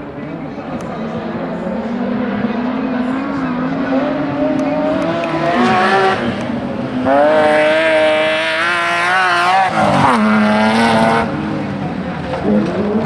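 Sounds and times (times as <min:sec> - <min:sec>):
race car engine revving: 0:00.2 - 0:13.0.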